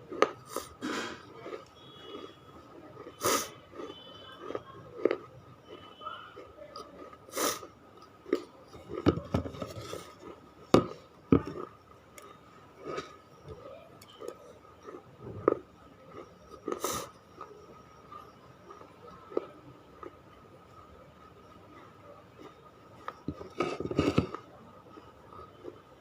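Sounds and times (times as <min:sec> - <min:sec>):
crunchy chewing of baked clay: 0:00.0 - 0:26.0.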